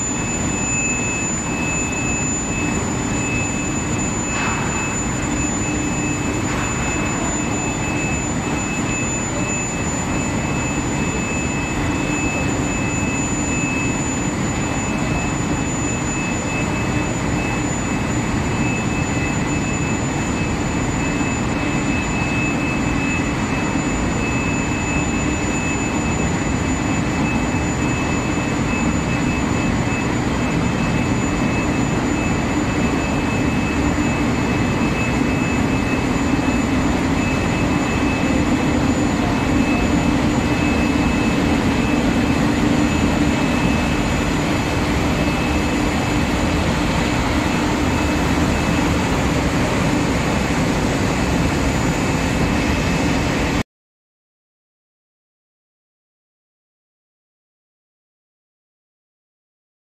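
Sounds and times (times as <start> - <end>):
high-pitched whine: 0.0 - 53.6
industrial machinery drone: 0.0 - 53.6.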